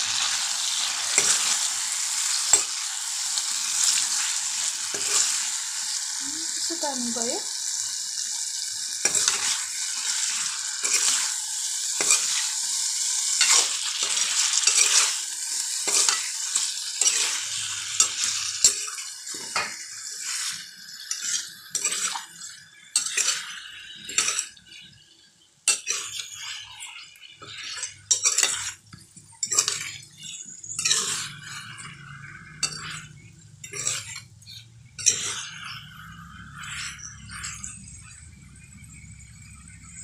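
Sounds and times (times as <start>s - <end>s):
masala sizzling: 0.0s - 40.0s
metal ladle scraping a pan: 0.2s - 5.5s, 9.0s - 24.8s, 25.7s - 28.8s, 29.4s - 38.2s.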